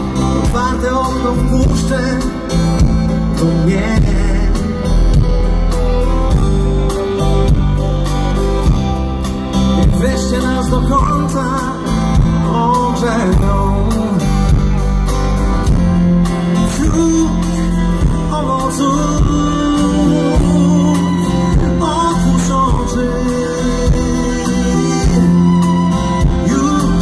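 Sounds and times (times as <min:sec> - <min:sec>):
guitar: 0:00.0 - 0:27.0
live pop band through speakers: 0:00.0 - 0:27.0
person singing: 0:00.0 - 0:27.0
steady bass: 0:00.0 - 0:27.0.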